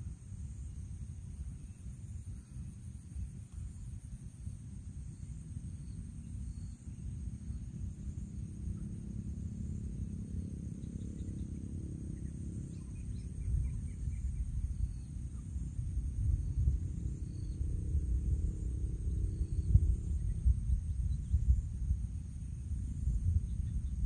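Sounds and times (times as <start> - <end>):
high-pitched insect chorus: 0.0 - 24.0
low uneven rumble: 0.0 - 24.0
faint chirps: 1.4 - 24.0.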